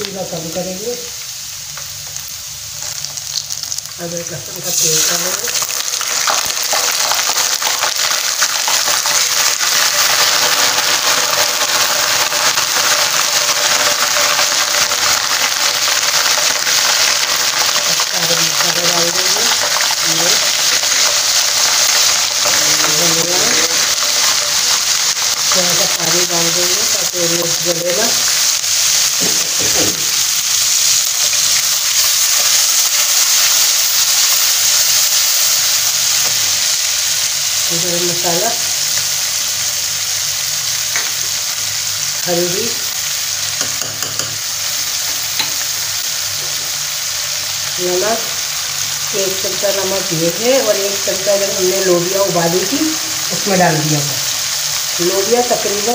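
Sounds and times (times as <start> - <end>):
hot oil sizzling and crackling: 0.0 - 55.9.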